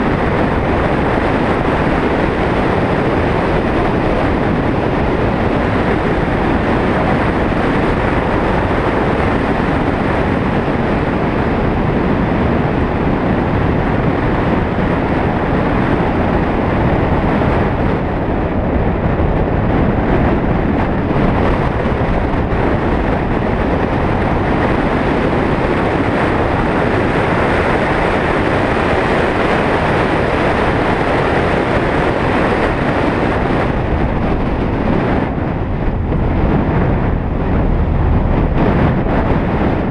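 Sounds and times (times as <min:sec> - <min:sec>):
vehicle driving on road: 0:00.0 - 0:39.9
wind noise on microphone: 0:00.0 - 0:39.9.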